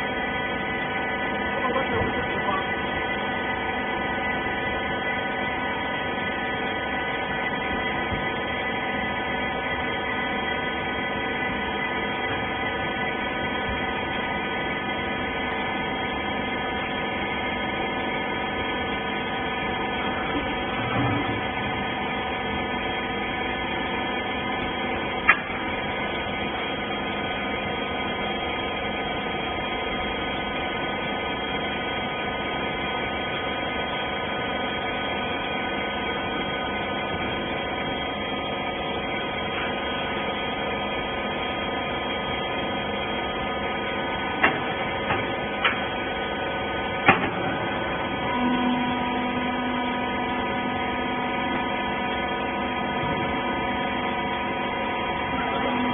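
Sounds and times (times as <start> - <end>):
hydraulic power unit humming: 0.0 - 55.9.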